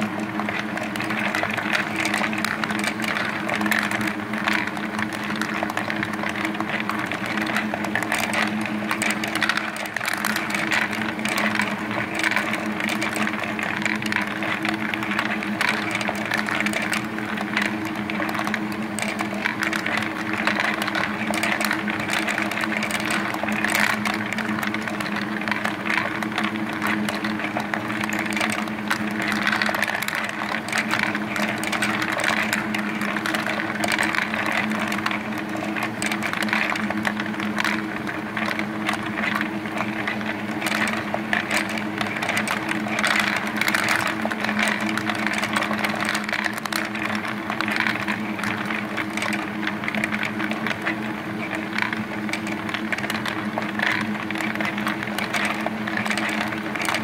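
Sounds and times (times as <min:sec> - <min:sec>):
marbles clattering on wooden tracks: 0:00.0 - 0:57.0.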